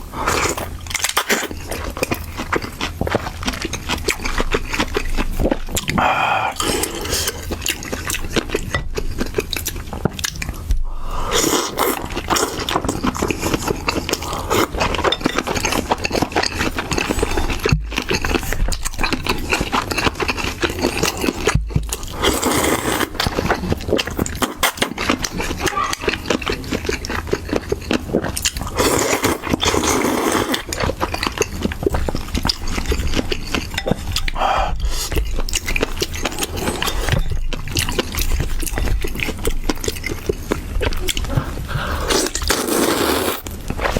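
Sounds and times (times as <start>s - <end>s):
chewing and slurping: 0.0s - 43.9s.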